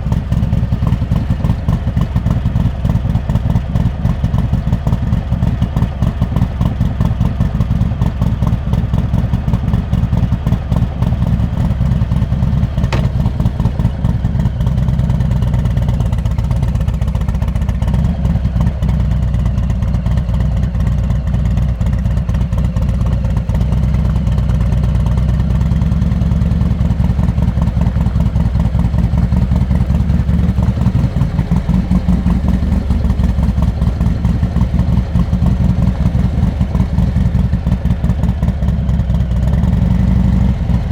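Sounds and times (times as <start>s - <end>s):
motorcycle engine deep pulsing beat: 0.0s - 40.9s.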